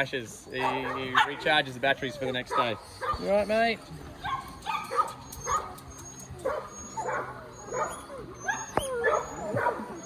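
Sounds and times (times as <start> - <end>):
dogs barking and yipping: 0.4 - 10.0.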